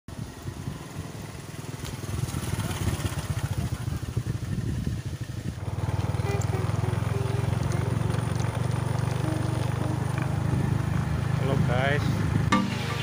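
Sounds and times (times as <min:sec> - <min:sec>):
engine running with rapid pulses: 0:00.1 - 0:13.0.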